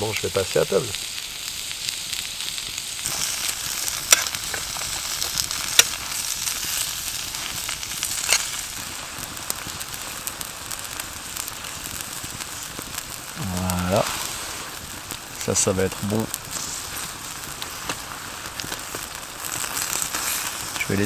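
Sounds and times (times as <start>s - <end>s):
vegetables sizzling in oil: 0.0s - 21.0s
oil popping: 2.0s - 21.0s.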